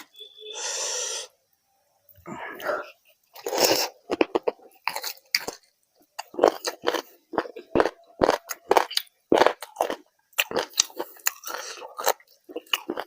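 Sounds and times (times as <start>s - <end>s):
person chewing crunchy food: 2.5s - 13.0s.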